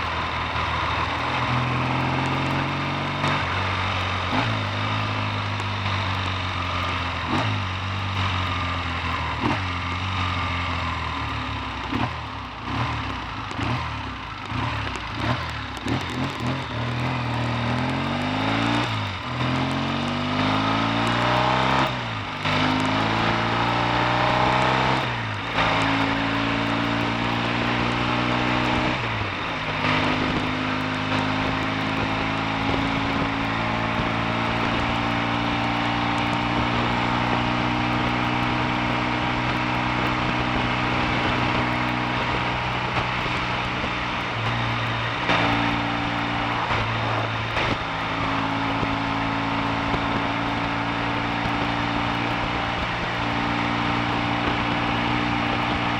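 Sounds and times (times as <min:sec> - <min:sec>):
motorcycle engine shifting gears: 0:00.0 - 0:55.9.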